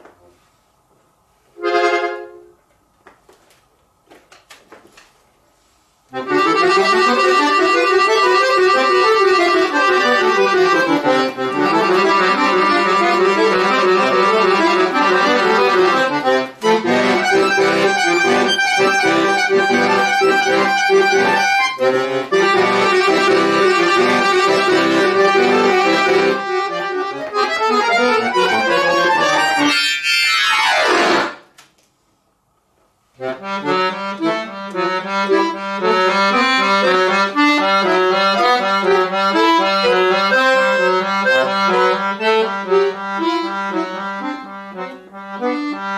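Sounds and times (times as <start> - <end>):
accordion playing: 1.5 - 2.6, 6.1 - 31.6, 33.1 - 45.9.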